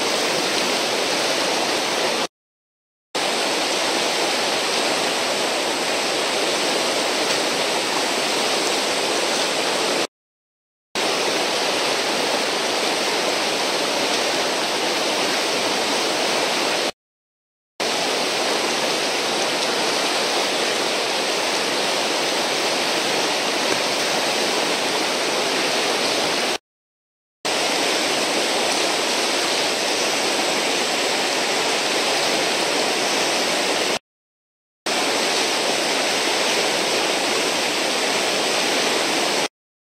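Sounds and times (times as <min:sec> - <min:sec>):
whitewater rushing: 0:00.0 - 0:02.3, 0:03.2 - 0:10.1, 0:11.0 - 0:16.9, 0:17.8 - 0:26.6, 0:27.5 - 0:34.0, 0:34.9 - 0:39.5.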